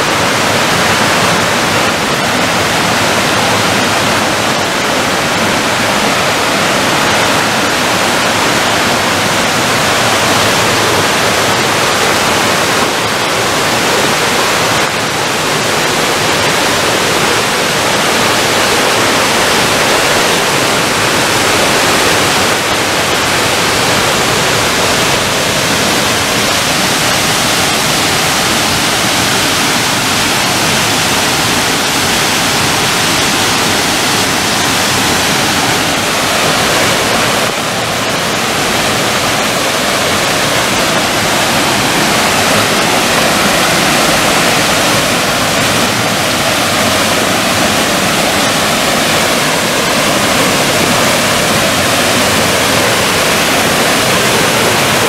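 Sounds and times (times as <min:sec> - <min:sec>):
waterfall pouring over rocks: 0:00.0 - 0:55.0.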